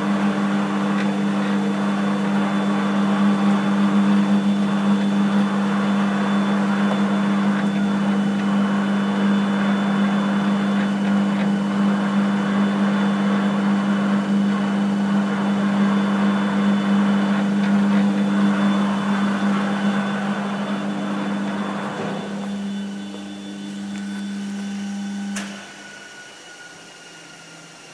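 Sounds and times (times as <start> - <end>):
lathe humming and whirring: 0.0 - 27.9.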